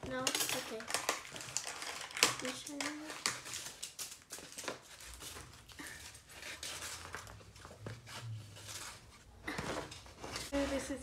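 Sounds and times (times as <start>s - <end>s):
glitter rustling into plastic tub: 0.0s - 11.0s.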